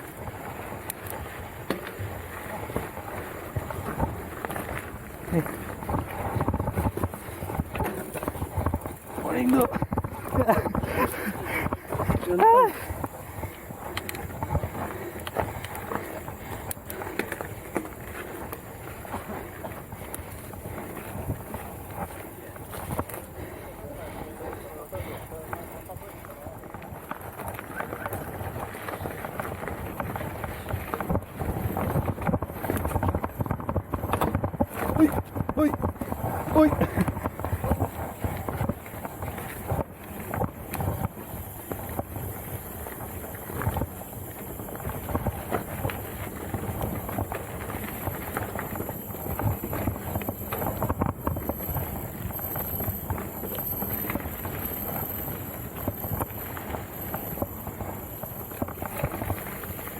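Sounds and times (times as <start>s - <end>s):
bike frame and chain rattling: 0.0s - 59.9s
bike tyres rumbling on dirt: 0.0s - 59.9s.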